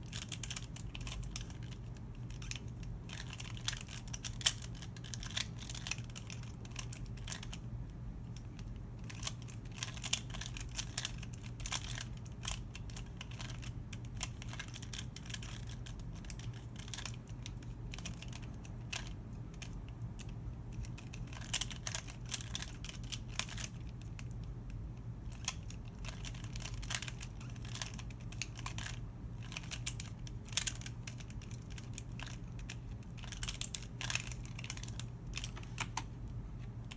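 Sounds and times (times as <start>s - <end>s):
low steady hum: 0.0s - 36.9s
plastic puzzle clicking: 0.1s - 7.6s, 8.4s - 24.3s, 25.3s - 36.1s.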